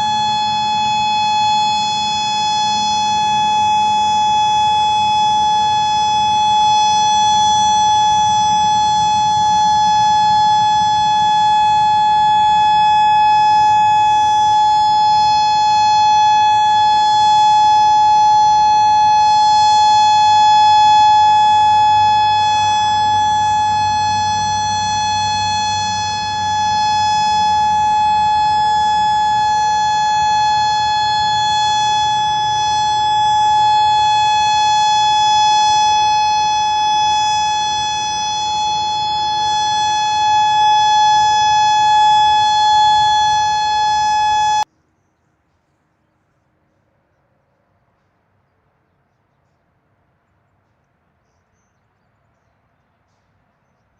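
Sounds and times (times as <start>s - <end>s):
warning siren steady tone: 0.0s - 44.7s.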